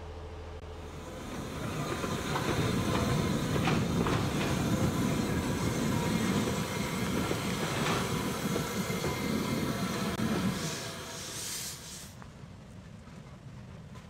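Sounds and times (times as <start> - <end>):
steam locomotive rumbling past: 0.6 - 14.0.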